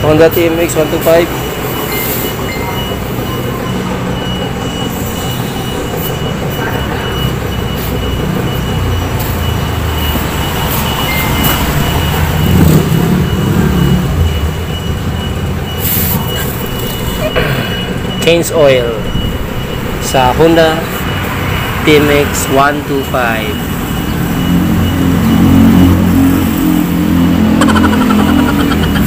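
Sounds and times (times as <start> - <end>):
engine rumbling: 0.0 - 29.0.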